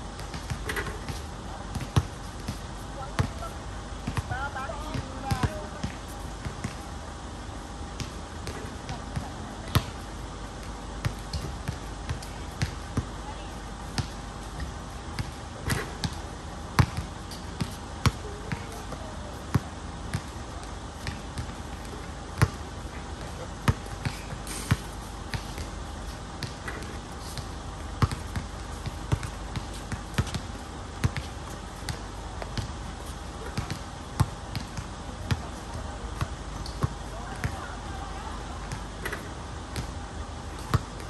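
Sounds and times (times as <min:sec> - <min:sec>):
basketball bouncing on court: 0:00.2 - 0:06.8, 0:08.0 - 0:41.0.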